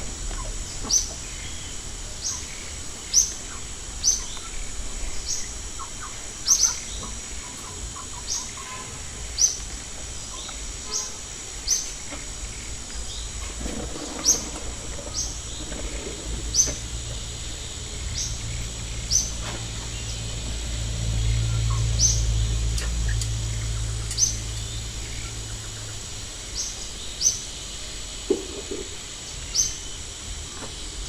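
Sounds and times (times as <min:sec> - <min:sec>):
steady high-pitched whine: 0:00.0 - 0:31.0
bird chirping: 0:00.3 - 0:13.4, 0:14.0 - 0:30.7.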